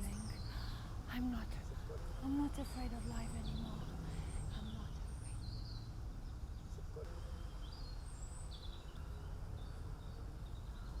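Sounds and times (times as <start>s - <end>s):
low outdoor rumble: 0.0s - 11.0s
bird chirps: 2.0s - 11.0s.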